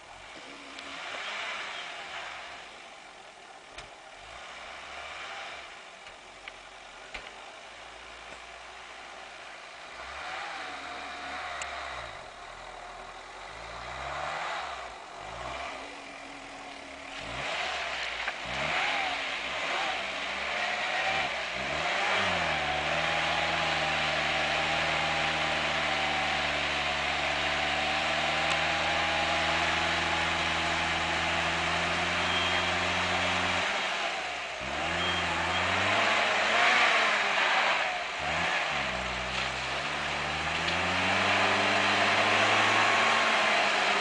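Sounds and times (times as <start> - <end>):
off-road engine revving: 0.0 - 44.0
vehicle pushing through slush and water: 0.0 - 44.0.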